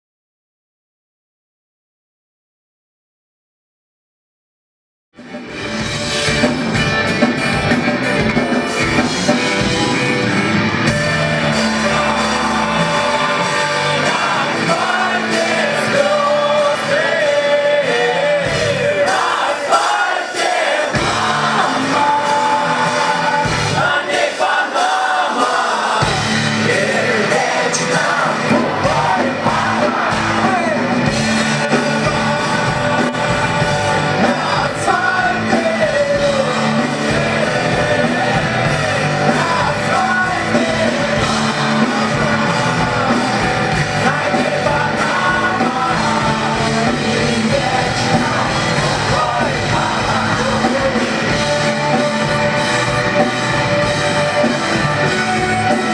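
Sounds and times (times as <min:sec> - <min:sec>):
rock band playing live: 0:05.2 - 0:55.9
audience shouting: 0:06.3 - 0:55.9
man singing: 0:10.9 - 0:55.9.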